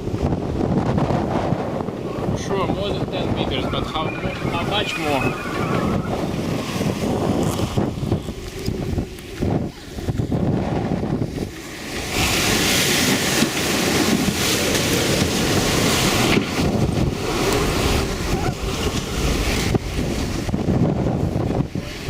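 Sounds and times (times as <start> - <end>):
breaking seas rushing: 0.0 - 22.0
wind buffeting microphone: 0.0 - 22.0.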